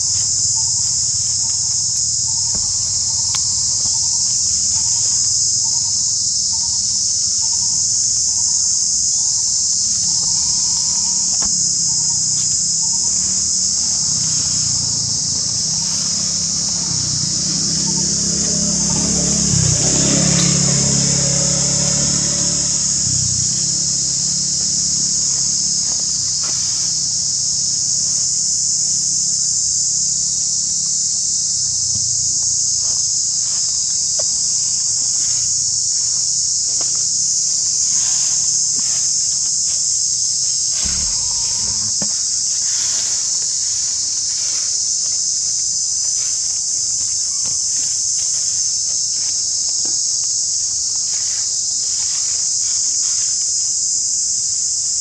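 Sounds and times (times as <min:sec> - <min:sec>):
high-pitched insect chorus: 0:00.0 - 0:55.0
rustling dry leaves: 0:00.0 - 0:55.0.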